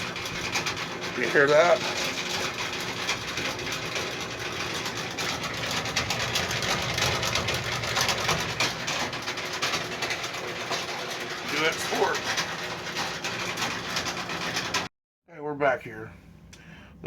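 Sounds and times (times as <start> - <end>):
washing machine rattling grind: 0.0 - 14.9.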